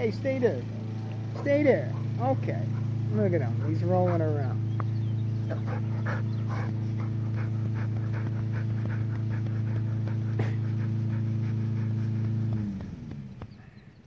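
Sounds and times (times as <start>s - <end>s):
dog panting: 0.0s - 14.0s
low motor hum: 0.0s - 14.0s.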